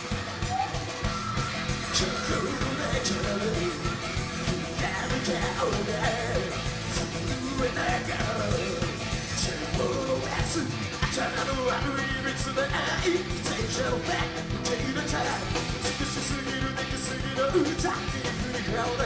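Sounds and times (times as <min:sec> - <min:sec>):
drum beat: 0:00.0 - 0:19.0
electric guitars: 0:00.0 - 0:19.0
man singing: 0:01.7 - 0:19.0.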